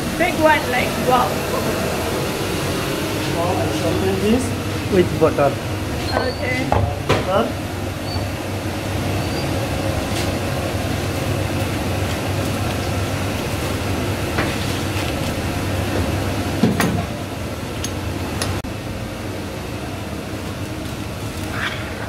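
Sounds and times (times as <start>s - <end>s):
kitchen ventilation hum: 0.0s - 22.0s.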